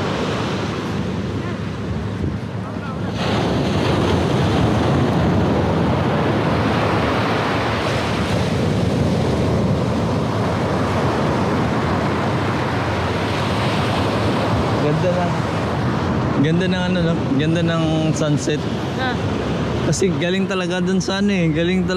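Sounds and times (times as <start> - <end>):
sea waves washing on beach: 0.0 - 21.9
wind buffeting microphone: 0.0 - 21.9.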